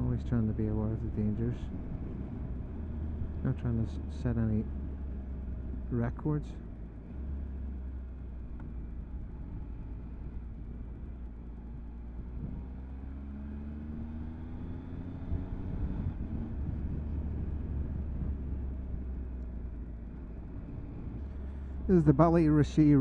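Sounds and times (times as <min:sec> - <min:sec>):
wind rumble on microphone: 0:00.0 - 0:06.0, 0:08.4 - 0:13.3, 0:14.2 - 0:23.0
motorcycle engine accelerating: 0:00.0 - 0:23.0.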